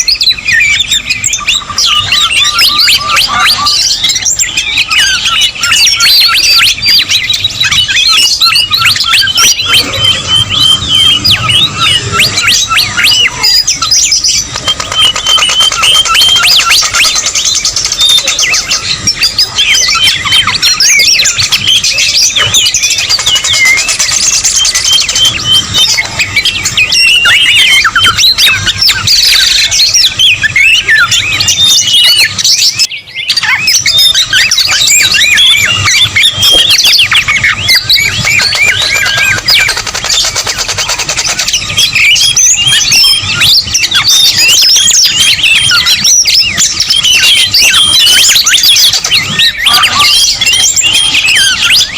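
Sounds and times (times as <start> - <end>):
songbird whistles and chirps: 0.0 - 51.9.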